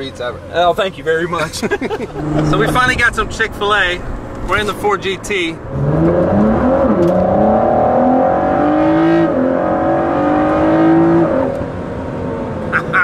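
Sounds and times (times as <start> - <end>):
car engine accelerating hard: 0.4 - 12.7.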